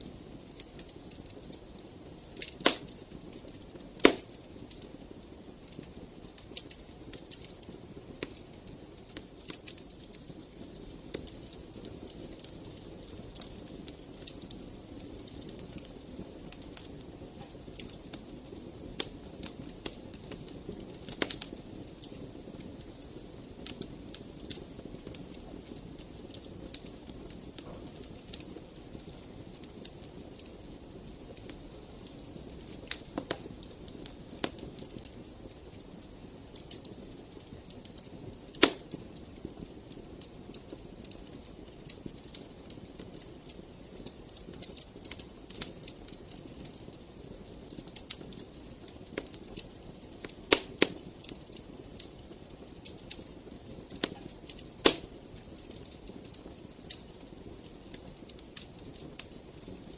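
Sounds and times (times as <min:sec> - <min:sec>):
flames rumbling: 0:00.0 - 0:59.9
wood fire popping: 0:00.0 - 0:59.9.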